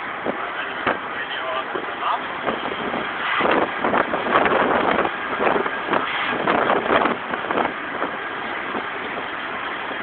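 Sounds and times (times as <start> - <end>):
diesel truck engine running: 0.0 - 10.0
wind and road noise: 0.0 - 10.0.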